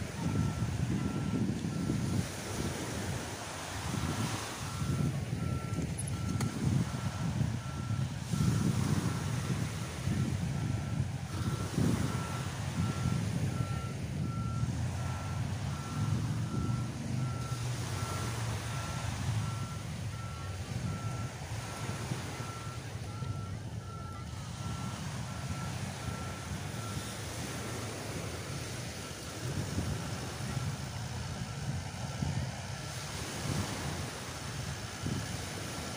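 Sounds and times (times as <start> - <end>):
surf rushing: 0.0 - 35.9
vehicle reversing alarm beeping: 0.0 - 35.9
wind on microphone: 0.0 - 35.9.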